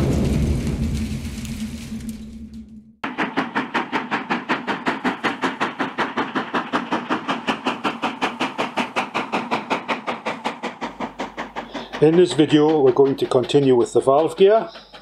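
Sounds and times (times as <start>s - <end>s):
steam locomotive chuffing: 0.0s - 2.3s, 3.0s - 15.0s.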